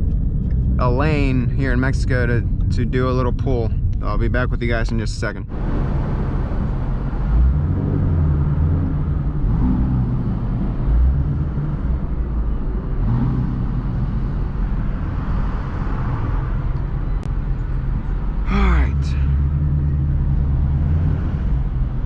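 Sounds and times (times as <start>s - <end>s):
car engine running at low revs: 0.0s - 22.0s
road noise: 0.0s - 22.0s.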